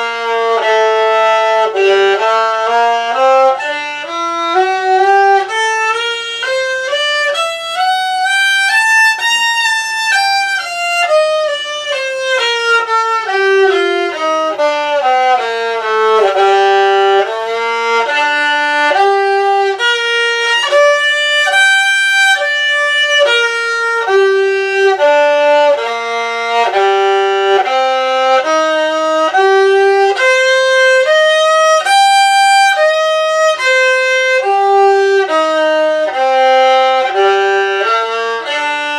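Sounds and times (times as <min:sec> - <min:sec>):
solo violin playing scales: 0:00.0 - 0:38.9.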